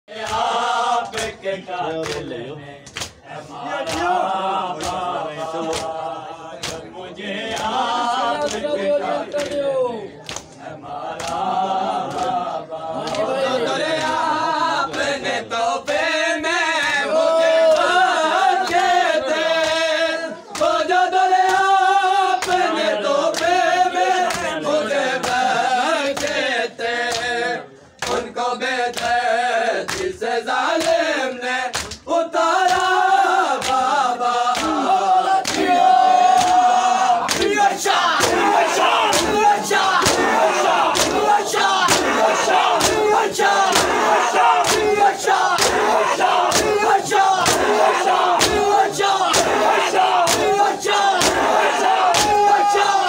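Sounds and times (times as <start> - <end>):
men chanting a lament: 0.1 - 53.0.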